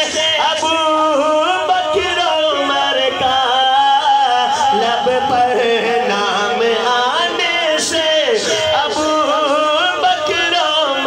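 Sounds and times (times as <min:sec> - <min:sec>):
man singing through microphone: 0:00.0 - 0:11.0.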